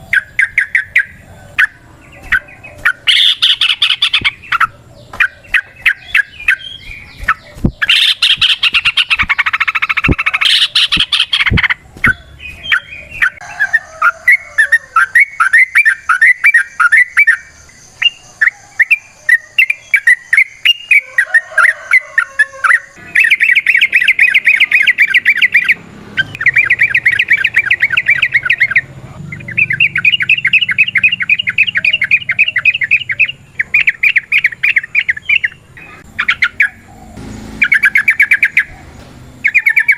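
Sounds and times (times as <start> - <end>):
bird singing with fast trills: 0.0 - 39.9.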